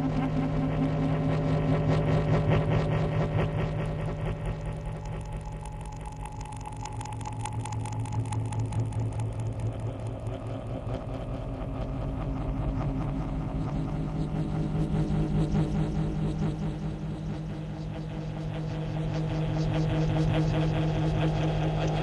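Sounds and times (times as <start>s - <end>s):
low rumbling fluttering drone: 0.0s - 22.0s.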